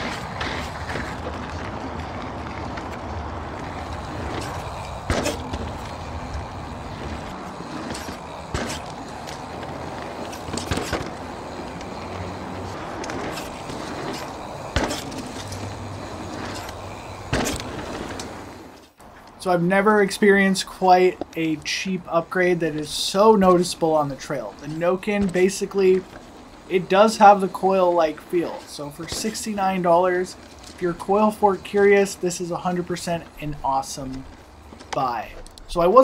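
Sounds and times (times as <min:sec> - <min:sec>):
bike knocking on bumps: 0:00.0 - 0:19.4, 0:22.4 - 0:35.5
bike tires rolling on dirt: 0:00.0 - 0:36.0.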